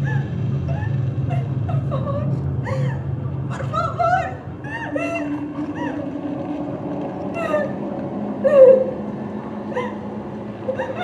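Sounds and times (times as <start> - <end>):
low steady drone: 0.0 - 11.0
wavering eerie wails: 0.0 - 11.0.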